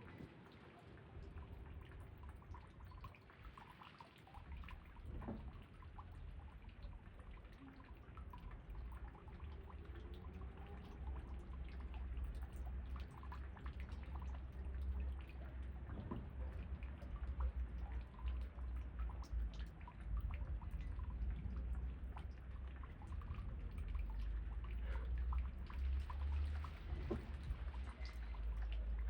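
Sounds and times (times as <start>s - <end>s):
low rumble of wind: 0.0s - 29.0s
raindrops falling close by: 0.0s - 29.0s.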